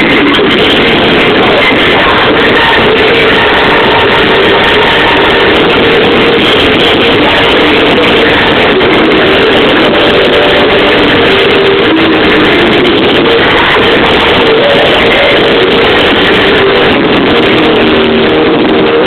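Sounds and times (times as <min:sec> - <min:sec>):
live pop-punk band: 0:00.0 - 0:19.0
woman singing lead: 0:00.0 - 0:19.0.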